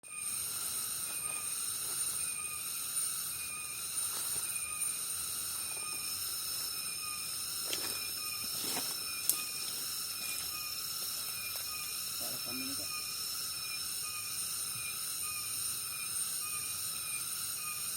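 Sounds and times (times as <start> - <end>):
insects buzzing: 0.0 - 17.9.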